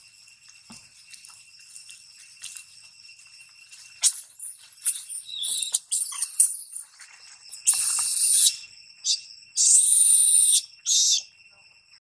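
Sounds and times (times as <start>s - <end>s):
insects shrilling: 0.0s - 11.5s.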